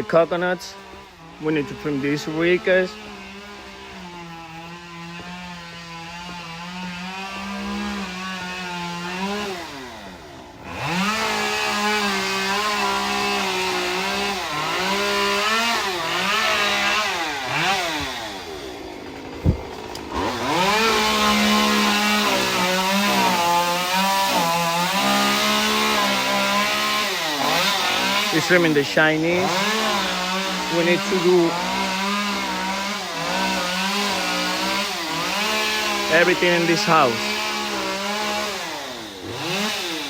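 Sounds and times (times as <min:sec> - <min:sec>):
chainsaw cutting: 0:00.0 - 0:40.0.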